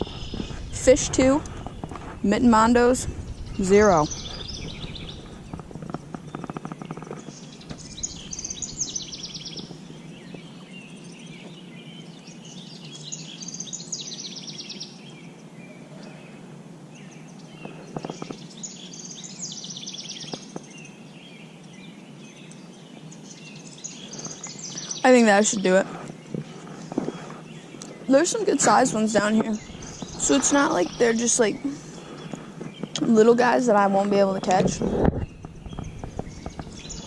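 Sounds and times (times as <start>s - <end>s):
outdoor background hiss: 0.0s - 37.0s
songbird singing: 0.0s - 37.0s.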